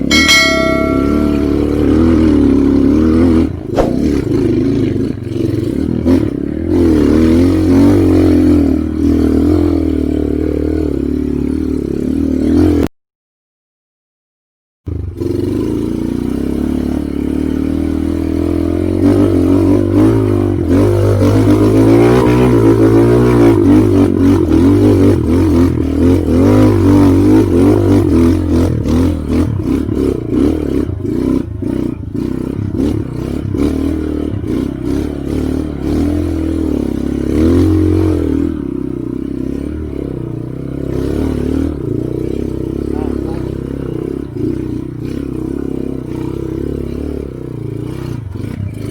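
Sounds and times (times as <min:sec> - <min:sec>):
motorcycle engine revving: 0:00.0 - 0:12.9, 0:14.9 - 0:48.9.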